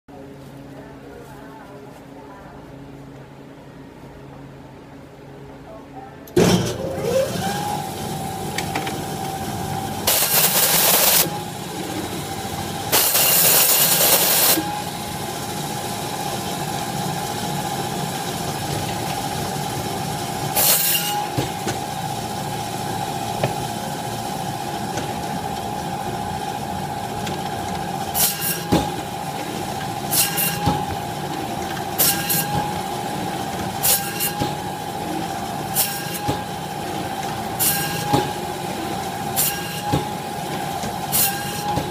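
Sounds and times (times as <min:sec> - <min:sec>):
band saw whine: 0:06.4 - 0:41.9.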